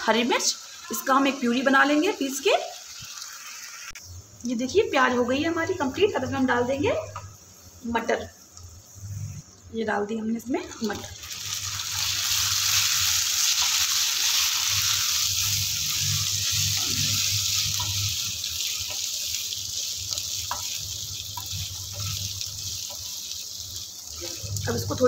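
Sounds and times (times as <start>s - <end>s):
peas sizzling in oil: 0.0s - 25.0s.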